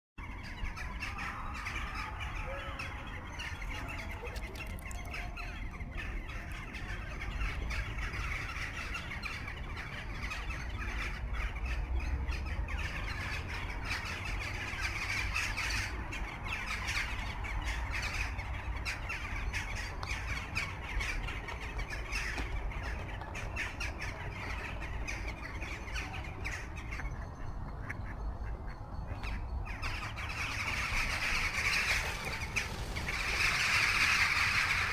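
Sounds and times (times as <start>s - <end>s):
birds calling and squawking: 0.2s - 34.9s.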